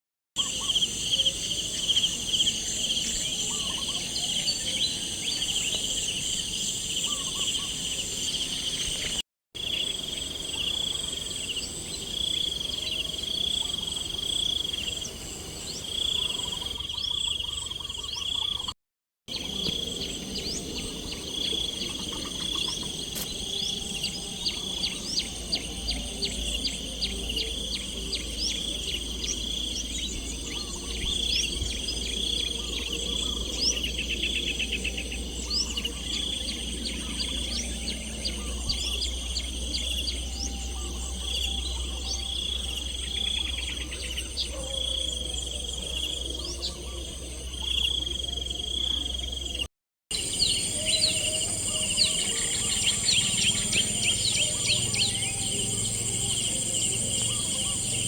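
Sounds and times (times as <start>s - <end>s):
insects trilling: 0.4s - 18.7s, 19.3s - 58.0s.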